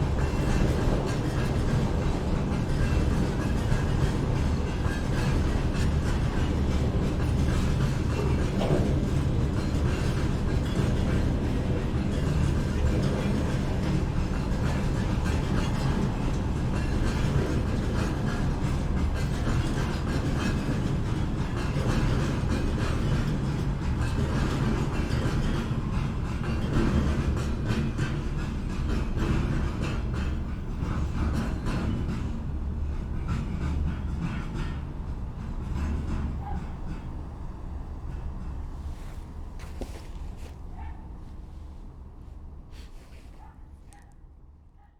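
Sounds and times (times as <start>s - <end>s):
wheels clacking over rail joints: 0.0s - 41.1s
train rumbling: 0.0s - 44.9s.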